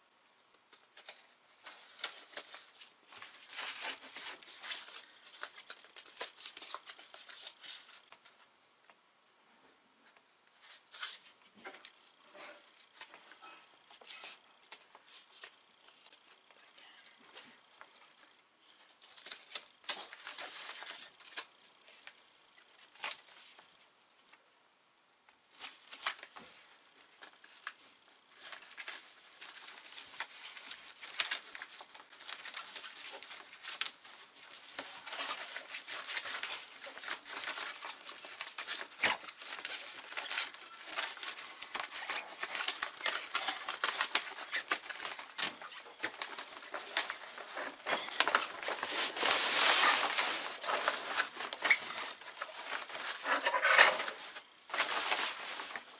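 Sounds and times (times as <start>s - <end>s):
sailcloth and tape paper crinkling: 0.7s - 8.5s, 12.9s - 24.4s, 25.5s - 55.9s.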